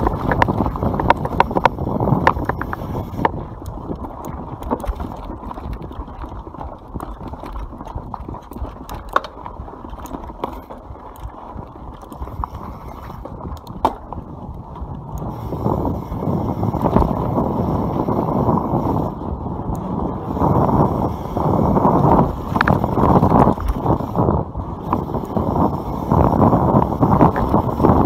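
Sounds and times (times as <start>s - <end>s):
bike rattling over bumps: 0.0s - 28.0s
tyres rumbling on dirt: 0.0s - 28.0s.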